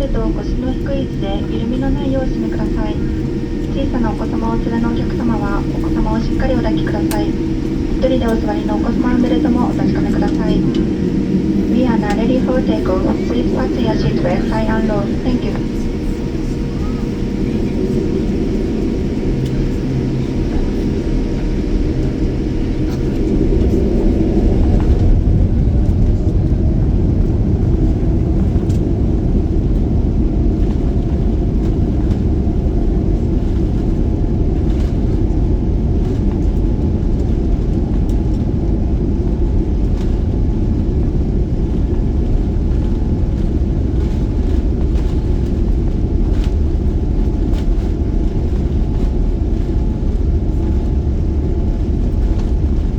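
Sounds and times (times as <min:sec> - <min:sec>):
jet engines rumbling: 0:00.0 - 0:52.9.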